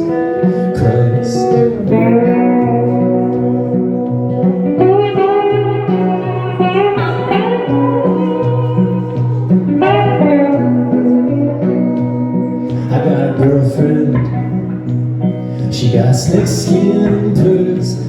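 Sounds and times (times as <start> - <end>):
sliding electric guitars: 0.0 - 18.0.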